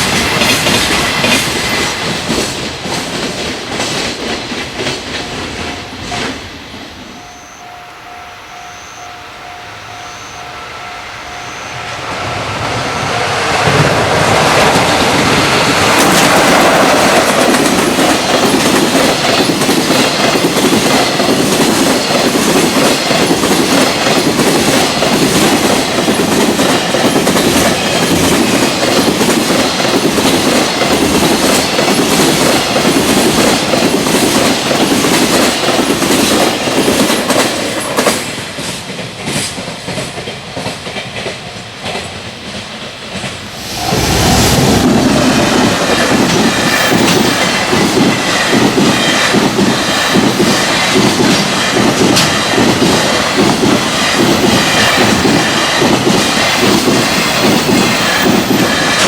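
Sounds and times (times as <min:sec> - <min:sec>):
train wheels clattering on rails: 0:00.0 - 0:06.8, 0:11.3 - 0:59.0.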